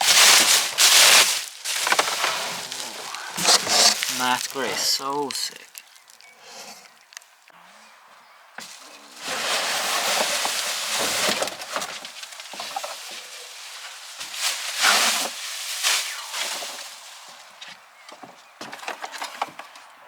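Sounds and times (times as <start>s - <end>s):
packaging rustling and crinkling: 0.0s - 7.3s, 8.6s - 17.5s.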